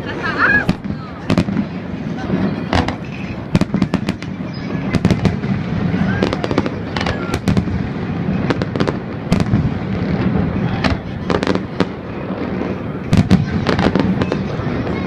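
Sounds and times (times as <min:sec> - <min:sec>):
fireworks bangs and crackles: 0:00.0 - 0:15.0
rumble of explosions: 0:00.0 - 0:15.0.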